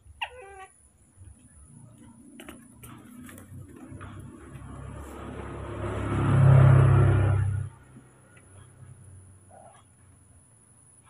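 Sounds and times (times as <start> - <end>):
motor vehicle approaching: 1.1 - 10.5.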